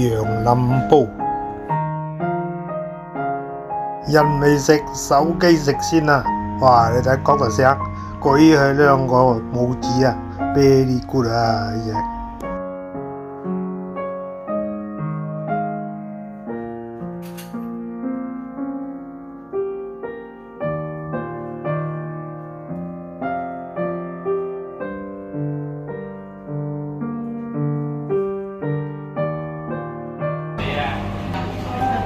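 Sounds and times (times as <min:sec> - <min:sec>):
slow piano melody: 0:00.0 - 0:32.0.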